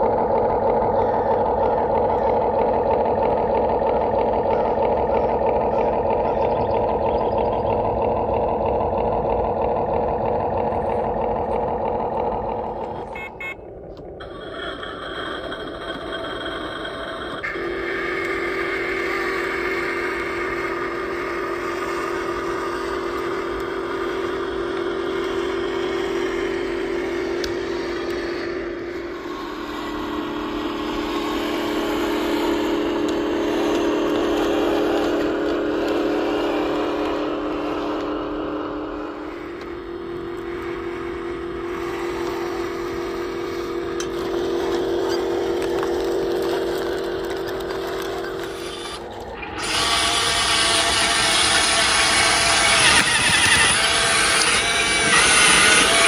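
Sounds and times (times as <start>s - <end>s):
electric motor and gearbox whine: 0.0s - 56.0s.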